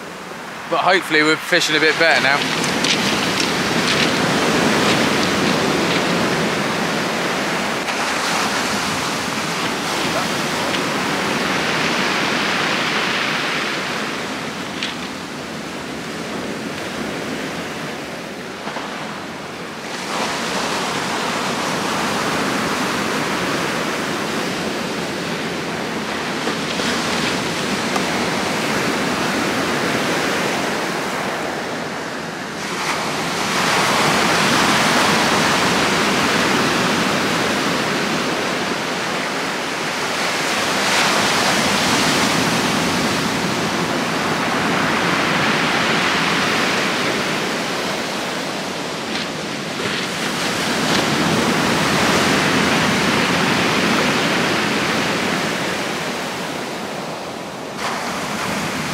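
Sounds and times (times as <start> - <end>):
heavy surf waves: 0.0 - 58.9.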